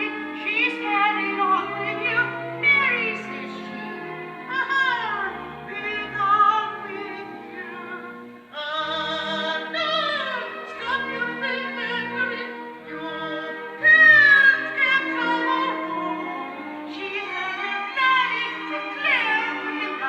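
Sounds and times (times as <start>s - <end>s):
operatic singing: 0.0s - 20.0s
symphony orchestra: 0.0s - 20.0s.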